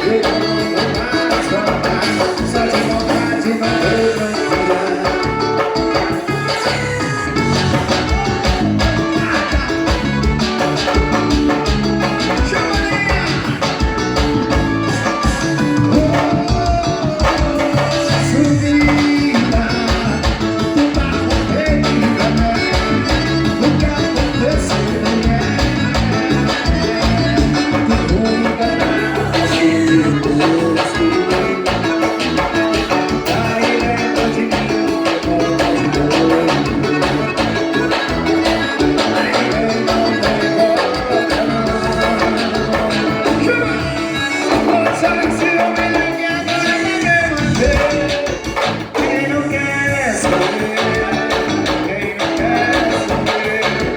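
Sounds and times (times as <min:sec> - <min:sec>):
upbeat band music with steady beat: 0:00.0 - 0:53.9.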